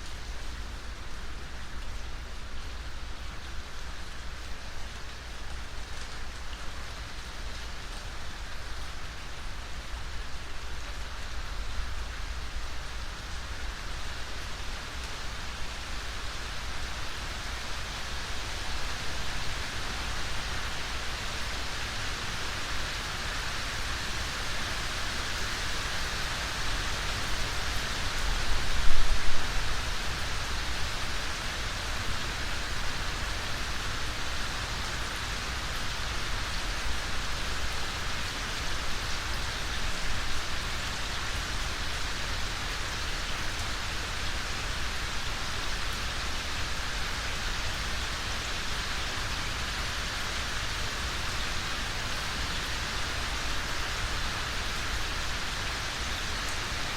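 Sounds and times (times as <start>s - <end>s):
steady rainfall: 0.0s - 56.9s.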